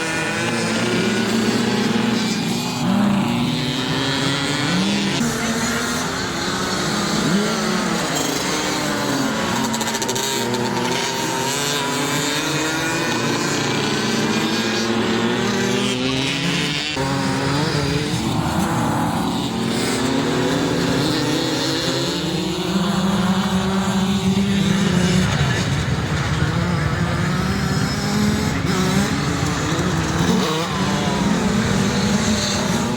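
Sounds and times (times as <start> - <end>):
racing motorcycles revving: 0.0 - 32.9.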